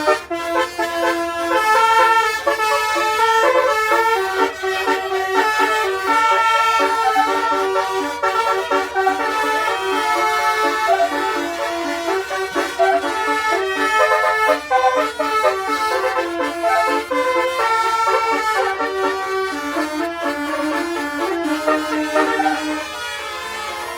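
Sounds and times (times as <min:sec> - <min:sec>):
bus musical horn playing tune: 0:00.0 - 0:23.9.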